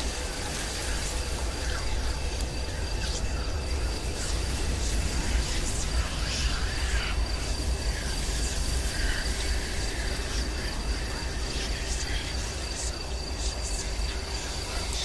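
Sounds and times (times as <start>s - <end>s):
high cricket-like trill: 0.0s - 15.0s.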